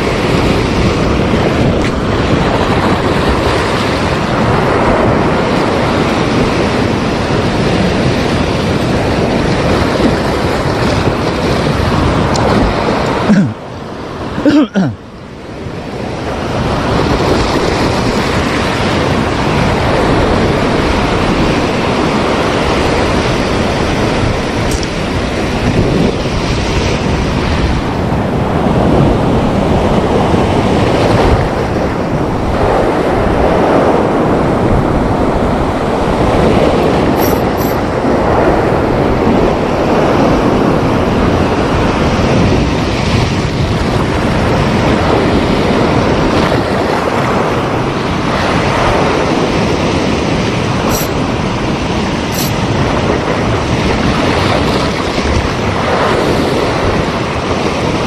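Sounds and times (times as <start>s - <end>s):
wind buffeting microphone: 0.0s - 14.4s, 15.0s - 58.0s
sea waves washing ashore: 0.0s - 58.0s.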